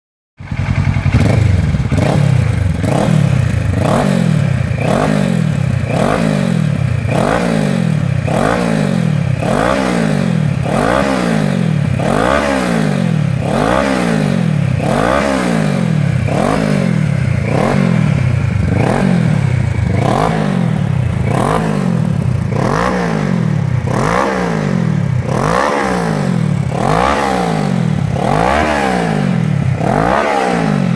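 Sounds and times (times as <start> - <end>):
motorcycle engine throttle blips: 0.4 - 30.9.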